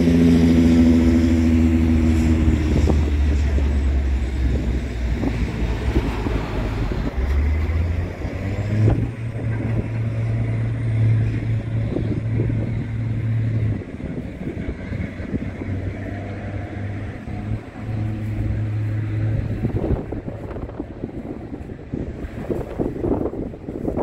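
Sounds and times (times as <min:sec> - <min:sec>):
low engine hum: 0:00.0 - 0:24.0
rushing background noise: 0:00.0 - 0:24.0.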